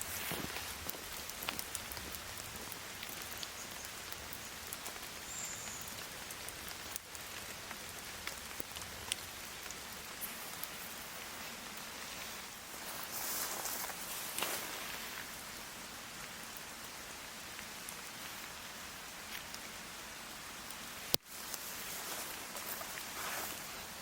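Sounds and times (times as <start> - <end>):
drops ticking on wood and leaves: 0.0 - 24.0
steady rain on trees: 0.0 - 24.0.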